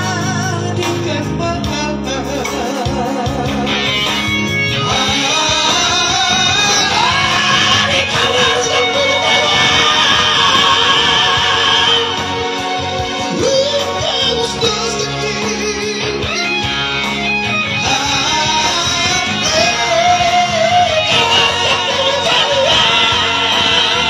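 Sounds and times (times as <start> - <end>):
male vocal trio singing: 0.0 - 16.9, 17.7 - 24.0
instrumental backing music: 0.0 - 24.0.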